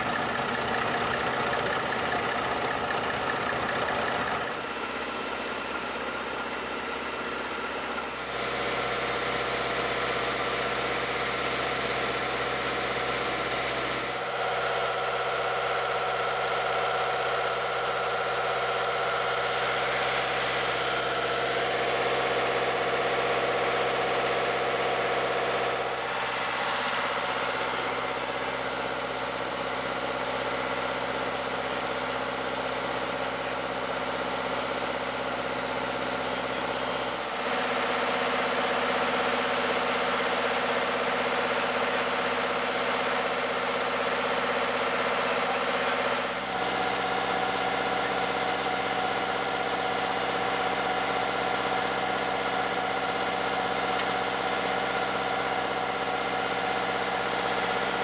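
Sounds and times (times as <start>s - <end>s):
engine hum with held tones: 0.0s - 58.0s.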